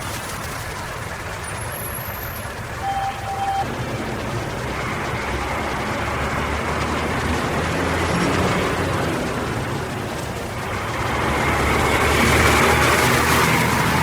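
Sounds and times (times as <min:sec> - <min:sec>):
bus engine humming: 0:00.0 - 0:14.0
road rush: 0:00.0 - 0:14.0.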